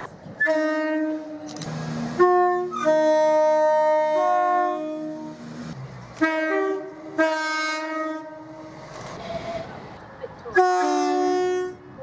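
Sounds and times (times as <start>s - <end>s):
train horn chords: 0.4s - 9.6s, 10.5s - 12.0s.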